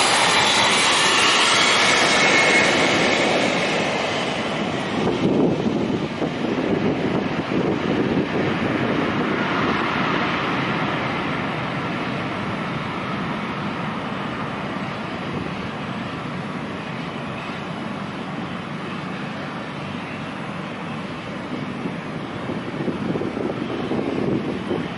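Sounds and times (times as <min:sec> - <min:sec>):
airplane engines rushing: 0:00.0 - 0:24.9.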